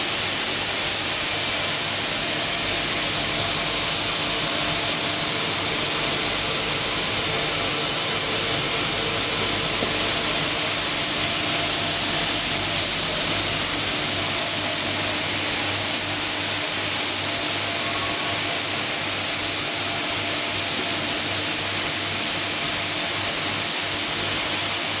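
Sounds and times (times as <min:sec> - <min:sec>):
pelletizing machine high hiss: 0:00.0 - 0:25.0.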